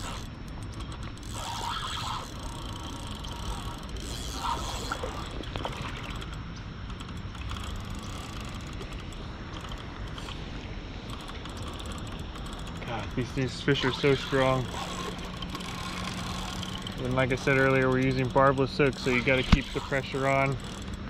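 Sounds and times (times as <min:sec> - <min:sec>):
fishing reel clicking: 0:00.0 - 0:21.0.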